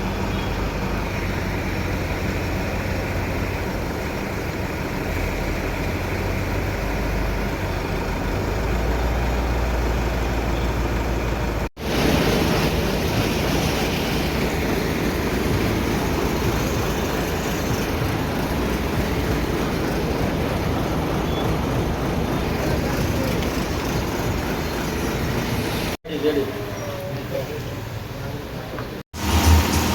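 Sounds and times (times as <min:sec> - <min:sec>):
machinery rumble: 0:00.0 - 0:26.4, 0:27.9 - 0:29.9.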